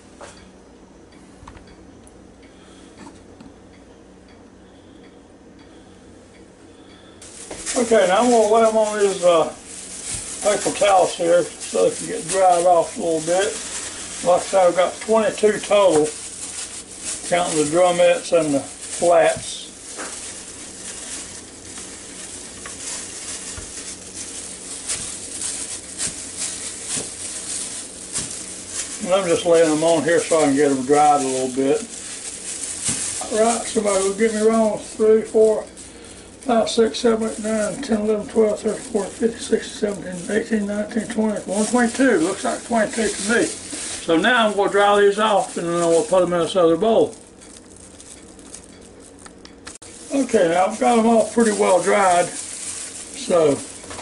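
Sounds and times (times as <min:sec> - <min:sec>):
steady low hum: 0:00.0 - 0:54.0
plastic gloves crinkling: 0:07.2 - 0:54.0.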